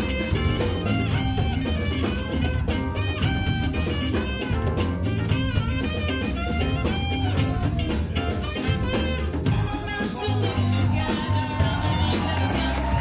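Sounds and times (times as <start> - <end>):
big band playing jazz: 0.0 - 13.0.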